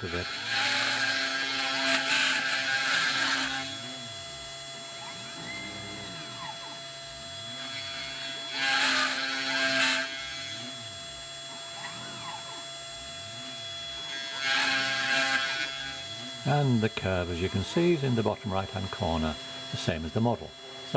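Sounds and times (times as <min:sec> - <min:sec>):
noisy cutting of board: 0:00.0 - 0:20.9
spindle motor whining: 0:00.0 - 0:20.9
stepper motors changing pitch: 0:00.0 - 0:20.9.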